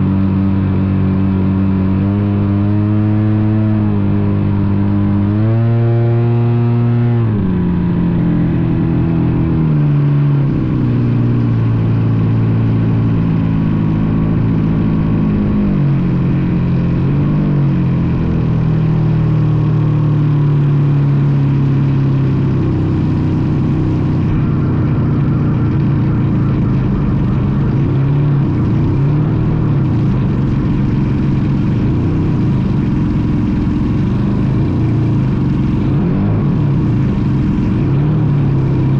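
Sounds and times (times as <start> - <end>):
model airplane engine and propeller: 0.0 - 38.9.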